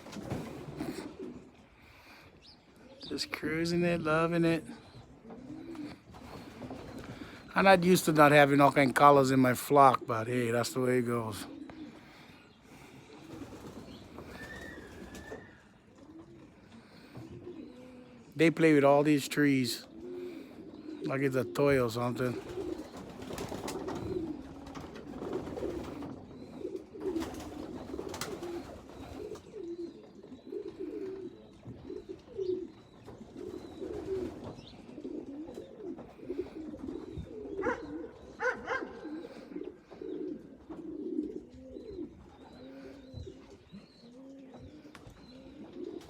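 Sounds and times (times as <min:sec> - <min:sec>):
pigeons cooing: 0:00.0 - 0:46.0.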